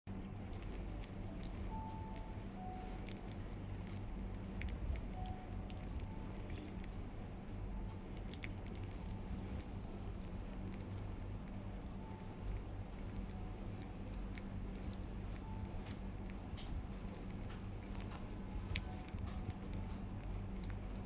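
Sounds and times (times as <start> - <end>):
birds pecking at lettuce: 0.1 - 21.0
steady low hum: 0.1 - 21.0.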